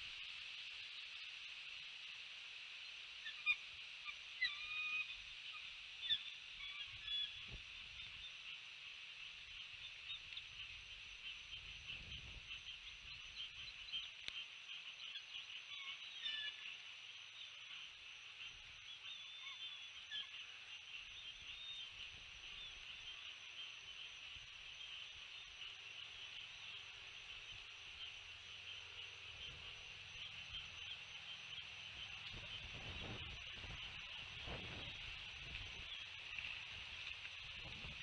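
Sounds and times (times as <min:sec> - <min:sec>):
steady high-pitched hiss: 0:00.0 - 0:38.0.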